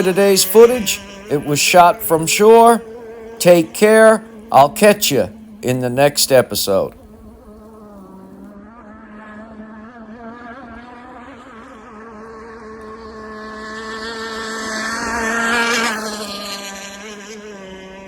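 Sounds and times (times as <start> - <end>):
model boat engine passing: 0.0 - 18.0.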